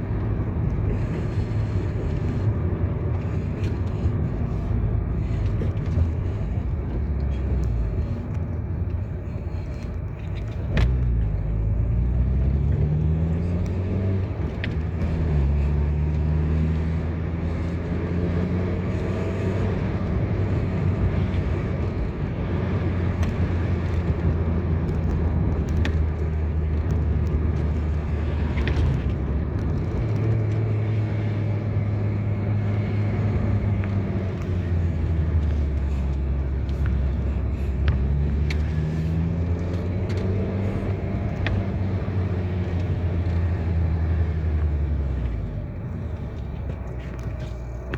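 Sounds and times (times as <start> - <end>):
car engine accelerating: 0.0 - 47.9
low road rumble: 0.0 - 47.9.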